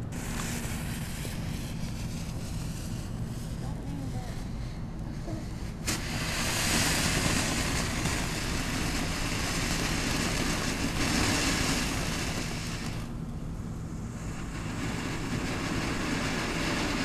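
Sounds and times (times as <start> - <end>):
firework crack: 0.0 - 17.0
firework spraying sparks hiss: 0.0 - 17.0.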